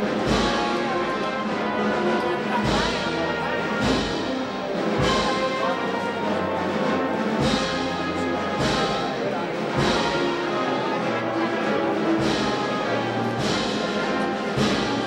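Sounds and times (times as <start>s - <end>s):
wind band playing a march: 0.0s - 15.0s.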